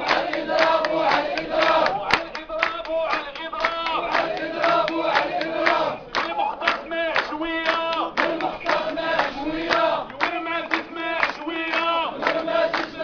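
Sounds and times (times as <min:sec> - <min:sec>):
crowd of men chanting: 0:00.0 - 0:13.0
rhythmic hand clapping: 0:00.0 - 0:13.0.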